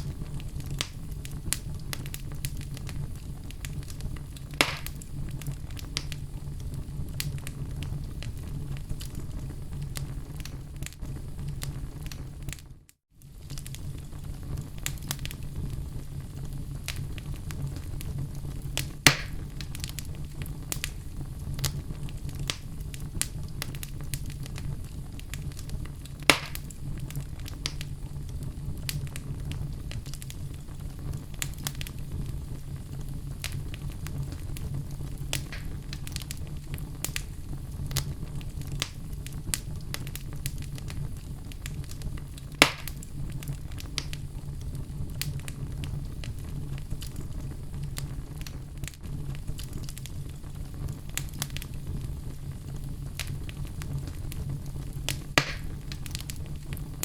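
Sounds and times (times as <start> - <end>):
fire crackling and snapping: 0.0 - 57.0
loud fire pops: 0.0 - 57.0
low rumble of flames: 0.0 - 57.0.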